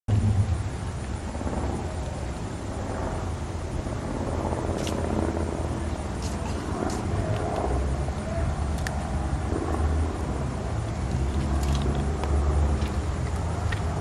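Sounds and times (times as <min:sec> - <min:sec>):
low outdoor rumble: 0:00.1 - 0:14.0.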